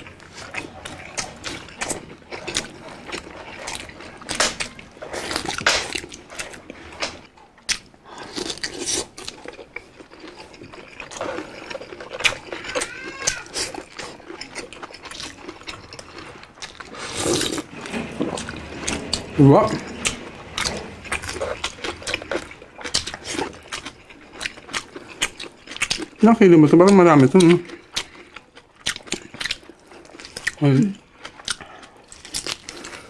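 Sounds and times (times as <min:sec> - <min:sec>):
wet chewing and lip smacks: 0:00.0 - 0:17.6, 0:20.0 - 0:33.0.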